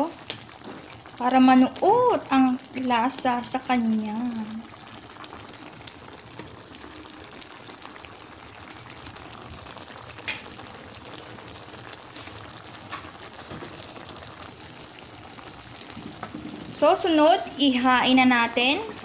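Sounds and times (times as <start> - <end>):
sauce bubbling and sizzling: 0.0 - 19.0.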